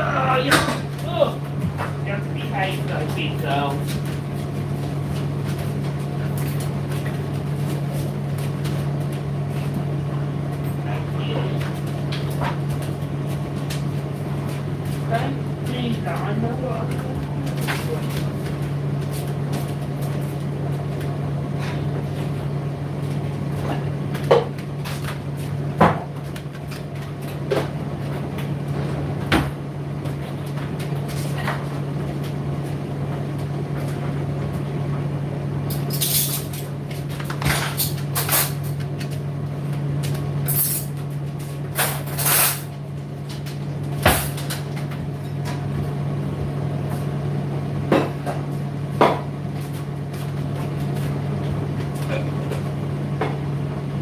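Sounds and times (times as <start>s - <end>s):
tumble dryer motor hum: 0.0s - 54.0s.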